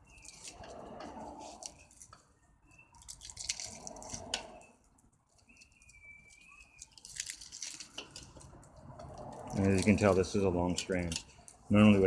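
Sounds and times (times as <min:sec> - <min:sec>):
thin steady squeak: 0:00.0 - 0:11.6
wire stripper clicks and scraping: 0:00.1 - 0:11.7.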